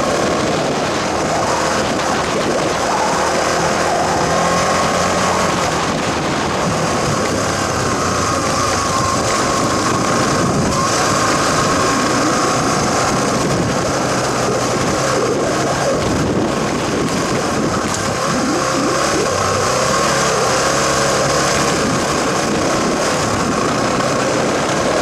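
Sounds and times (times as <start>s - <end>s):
motorcycle engine running: 0.0s - 25.0s
steady rushing noise: 0.0s - 25.0s.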